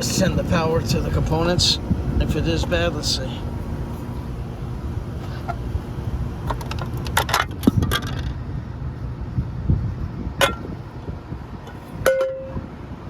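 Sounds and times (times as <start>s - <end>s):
air conditioning unit humming: 0.0s - 13.0s.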